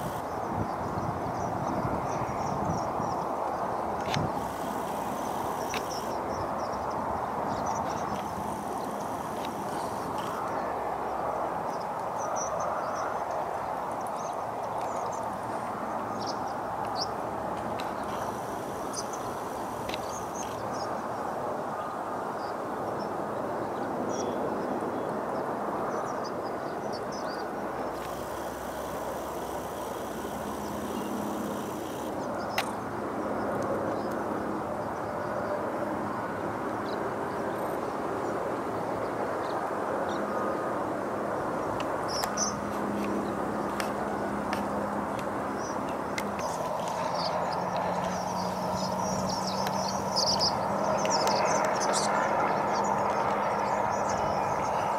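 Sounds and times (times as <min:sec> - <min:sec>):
outdoor background noise: 0:00.0 - 0:54.9.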